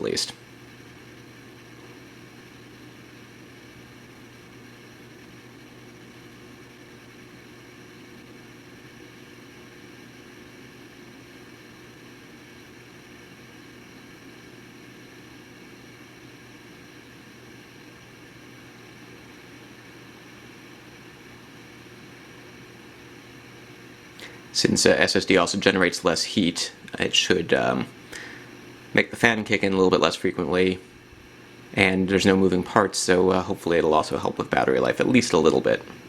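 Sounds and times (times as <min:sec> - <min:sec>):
steady low hum with hiss: 0:00.0 - 0:36.0.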